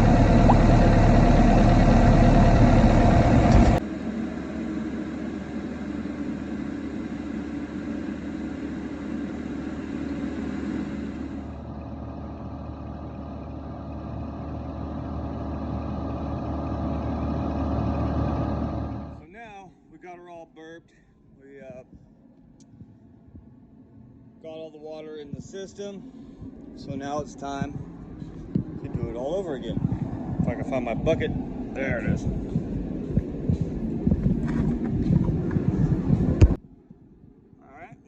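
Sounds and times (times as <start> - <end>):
diesel engine idling: 0.0 - 19.2, 25.4 - 36.6.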